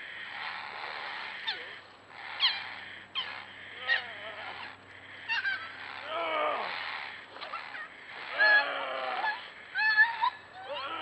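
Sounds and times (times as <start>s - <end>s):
small dog yelping: 1.2s - 11.0s.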